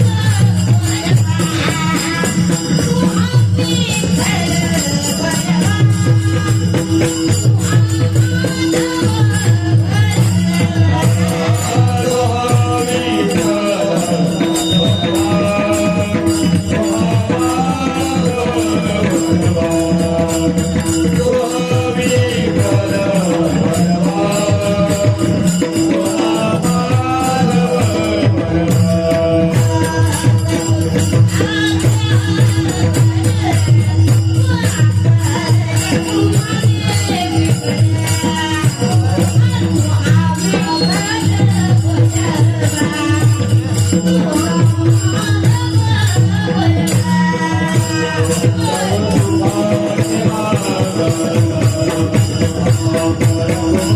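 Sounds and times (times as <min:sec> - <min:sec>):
jingling metal percussion: 0:00.0 - 0:53.9
person singing devotional melody: 0:00.0 - 0:53.9.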